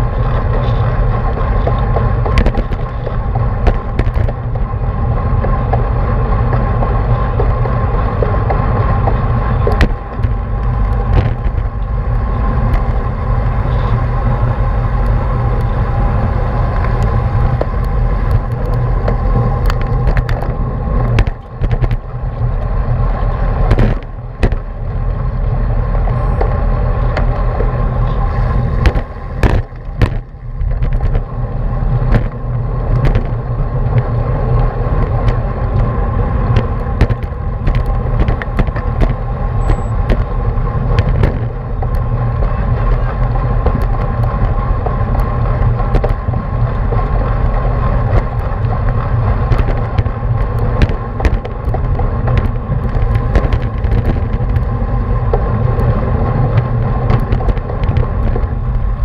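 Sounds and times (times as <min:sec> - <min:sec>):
sharp knocks from road bumps: 0:00.0 - 0:04.7, 0:05.3 - 0:14.3, 0:16.6 - 0:25.1, 0:26.4 - 0:58.8
road rumble: 0:00.0 - 0:59.0
wind rush on microphone: 0:00.0 - 0:59.0.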